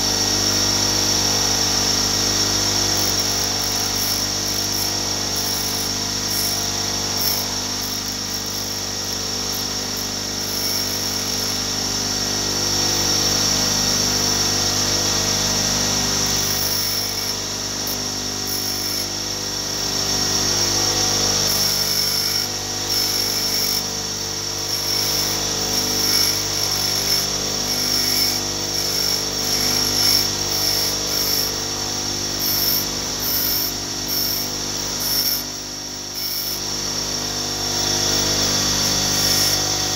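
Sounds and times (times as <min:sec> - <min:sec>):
bench grinder motor hum: 0:00.0 - 0:39.9
wire grinding on wheel hiss: 0:01.8 - 0:11.8, 0:16.2 - 0:19.8, 0:20.6 - 0:36.6, 0:37.3 - 0:39.9.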